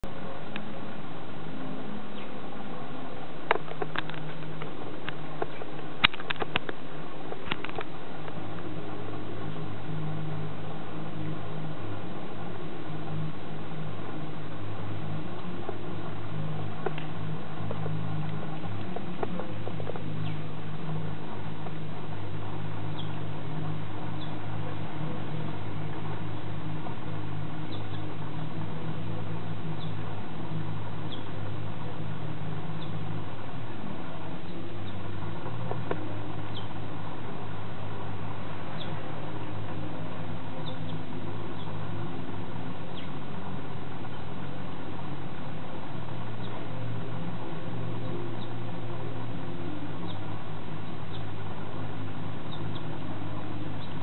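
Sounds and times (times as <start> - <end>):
constant hiss: 0.0 - 54.0
steady low hum: 0.0 - 54.0.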